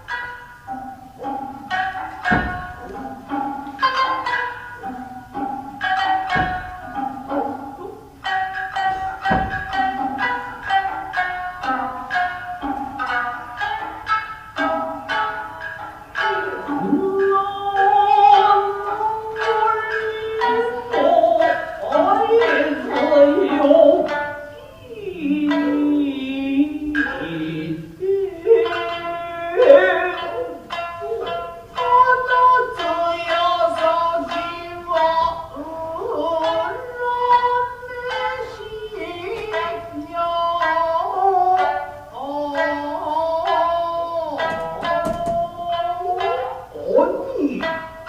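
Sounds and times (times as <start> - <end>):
plucked shamisen notes: 0.0 - 48.0.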